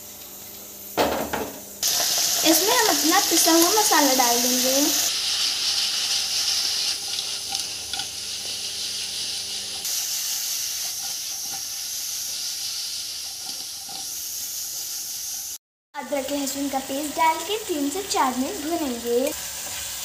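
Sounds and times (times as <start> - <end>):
vegetables sizzling in hot oil: 1.1 - 20.0.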